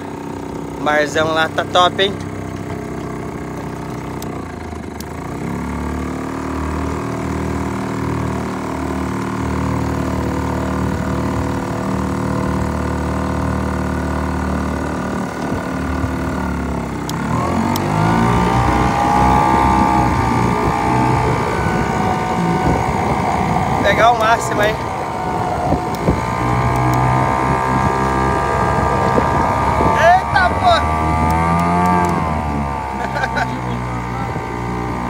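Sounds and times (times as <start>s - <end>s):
outboard boat motor running: 0.0s - 35.0s.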